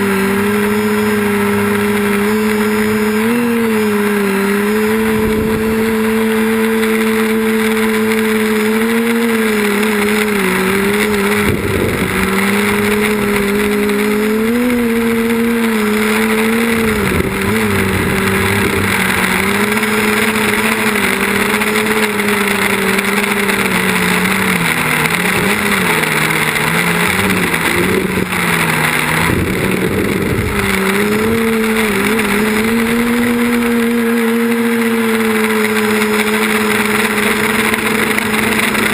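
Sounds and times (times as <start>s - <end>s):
quadcopter propellers droning: 0.0s - 38.9s.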